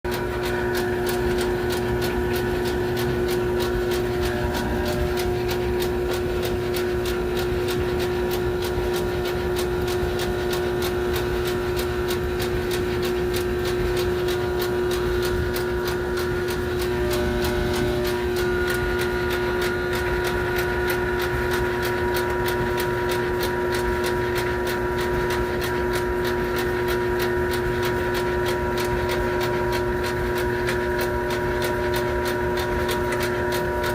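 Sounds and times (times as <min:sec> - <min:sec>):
mechanical hum with held tones: 0:00.1 - 0:33.9.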